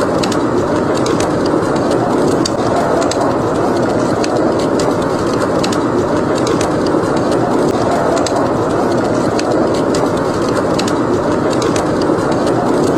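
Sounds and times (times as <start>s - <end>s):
howling blizzard wind: 0.0s - 12.9s
wood fire crackling: 0.0s - 12.9s.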